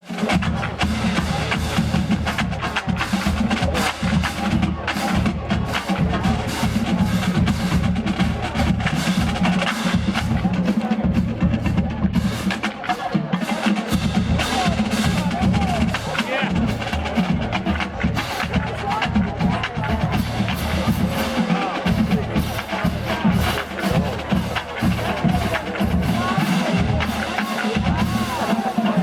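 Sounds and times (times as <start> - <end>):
snare drums: 0.0 - 29.0
bass drums: 0.2 - 12.9, 13.9 - 29.0.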